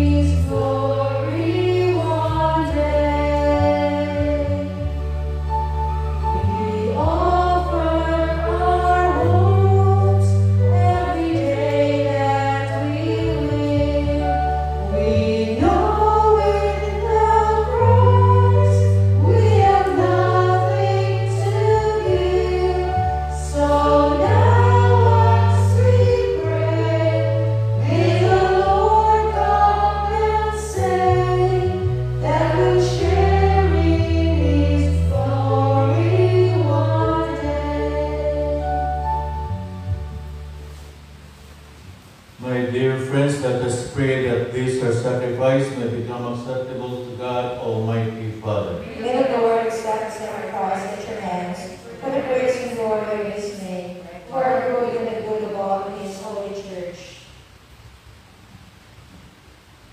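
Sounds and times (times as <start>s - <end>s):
choir singing a hymn: 0.0s - 39.9s, 43.3s - 56.8s
held low bass notes: 0.0s - 49.1s.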